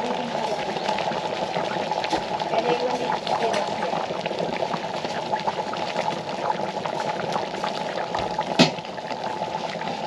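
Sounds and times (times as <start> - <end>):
pan bubbling and crackling: 0.0 - 10.0.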